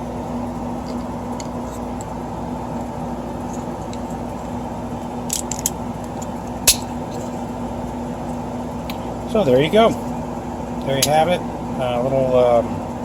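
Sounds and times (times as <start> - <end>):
fan hum: 0.0 - 13.0.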